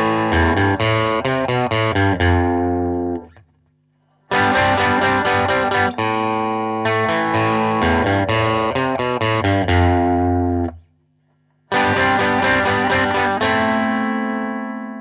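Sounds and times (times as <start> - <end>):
electric guitar played dry: 0.0 - 3.4, 4.3 - 10.8, 11.7 - 15.0.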